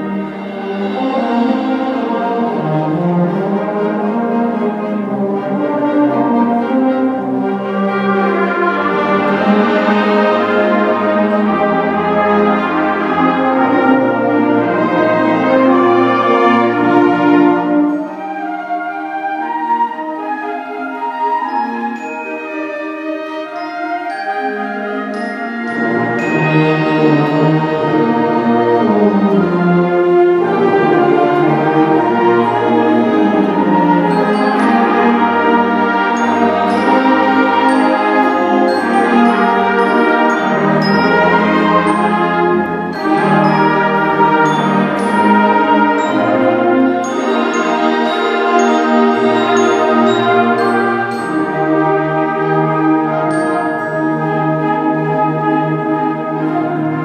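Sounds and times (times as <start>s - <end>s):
symphonic band playing: 0.0s - 57.0s.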